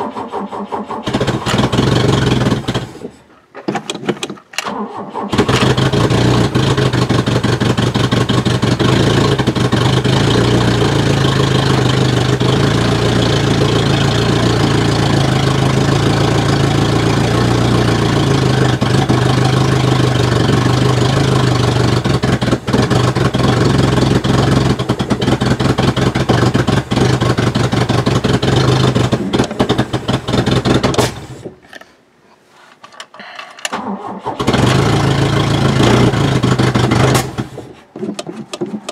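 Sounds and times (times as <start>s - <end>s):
car engine idling: 0.0s - 3.6s, 4.7s - 31.7s, 33.7s - 38.9s.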